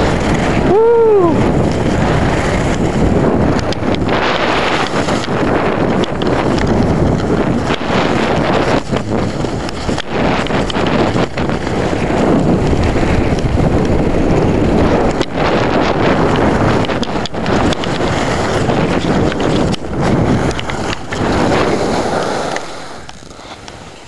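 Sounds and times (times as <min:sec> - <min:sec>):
skis scraping over snow: 0:00.0 - 0:24.0
wind buffeting microphone: 0:00.0 - 0:24.0.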